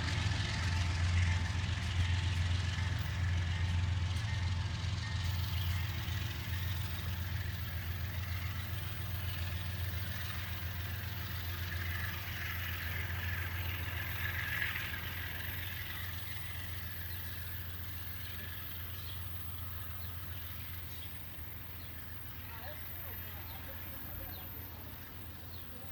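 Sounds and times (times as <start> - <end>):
diesel locomotive droning: 0.0 - 25.9.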